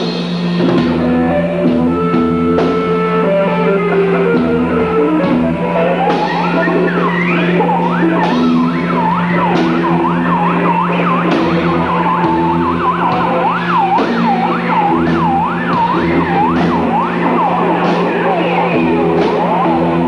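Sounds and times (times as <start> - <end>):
live rock band playing: 0.0 - 20.0
steady low drone: 0.0 - 20.0
stepping bass line: 0.0 - 20.0
swooping guitar pitch glides: 0.0 - 20.0.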